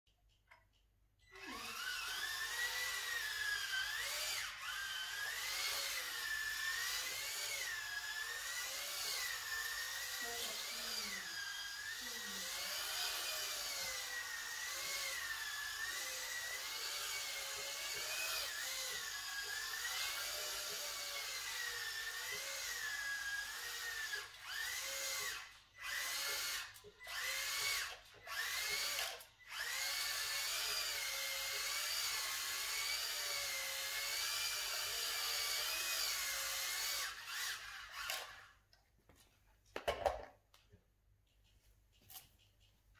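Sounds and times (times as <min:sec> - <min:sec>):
toy car electric motor whining: 0:01.2 - 0:38.6.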